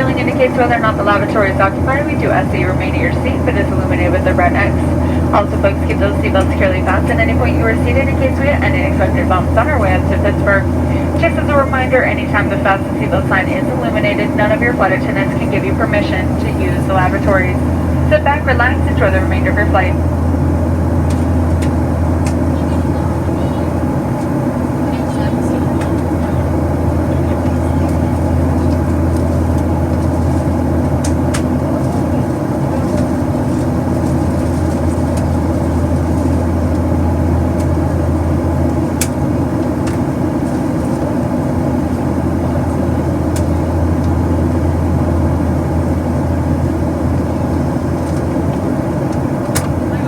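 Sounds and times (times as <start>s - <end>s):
aircraft engines droning: 0.0s - 50.0s
low hum: 0.0s - 50.0s.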